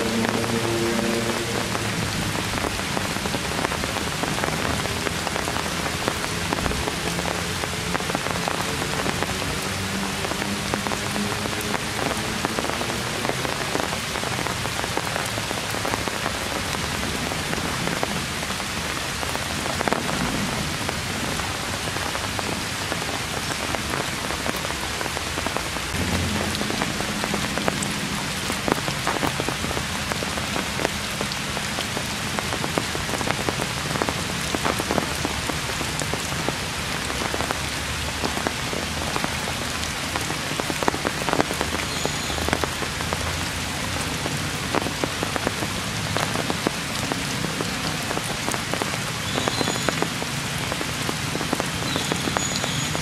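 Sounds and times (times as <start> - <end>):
heavy rain on foliage: 0.0 - 53.0
raindrops ticking on leaves: 0.0 - 53.0.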